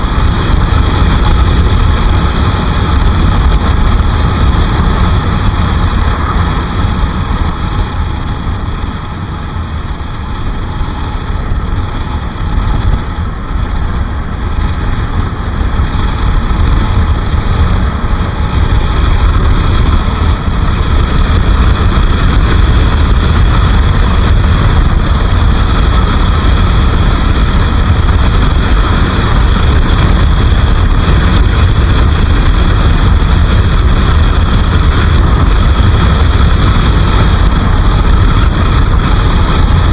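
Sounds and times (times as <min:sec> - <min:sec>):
heavy low rumble: 0:00.0 - 0:39.9
motorcycle engine running: 0:00.0 - 0:39.9.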